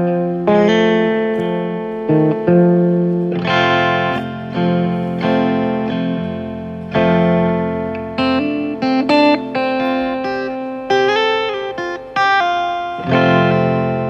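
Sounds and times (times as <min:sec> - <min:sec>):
guitar playing slow chords: 0:00.0 - 0:14.0.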